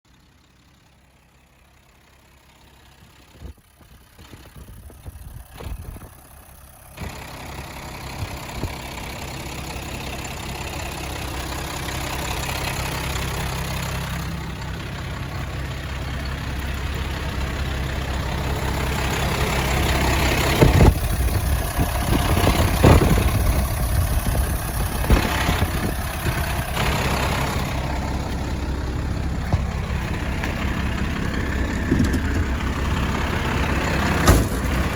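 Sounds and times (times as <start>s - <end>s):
truck engine starting and idling: 0.1s - 34.9s.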